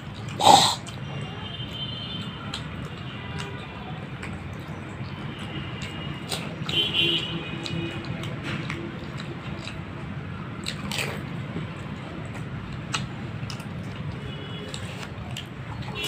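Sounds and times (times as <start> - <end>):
crunching and squishing in mouth: 0.0 - 16.0.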